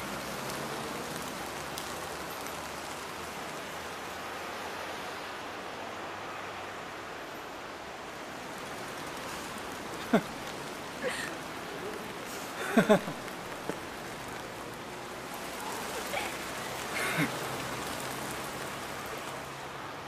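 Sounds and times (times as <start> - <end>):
rain-like hiss: 0.0 - 20.0.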